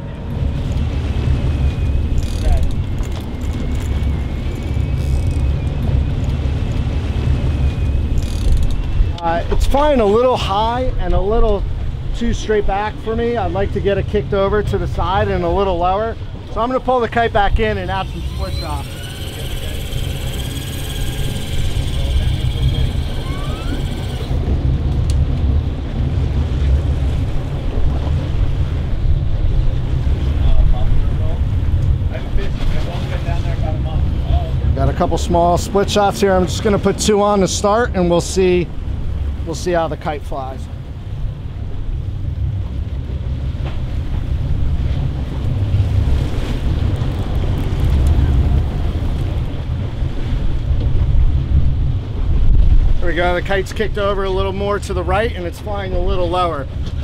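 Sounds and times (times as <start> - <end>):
sea wash: 0.0 - 57.0
wind buffeting microphone: 0.0 - 57.0.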